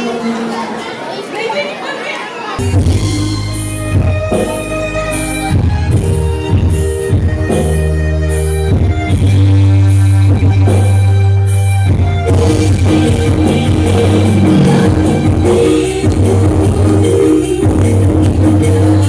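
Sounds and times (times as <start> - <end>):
live band music with strong bass: 2.6 - 19.0.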